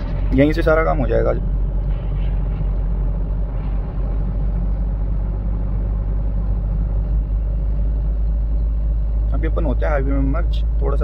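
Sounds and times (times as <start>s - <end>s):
diesel engine inside cabin: 0.0s - 11.0s.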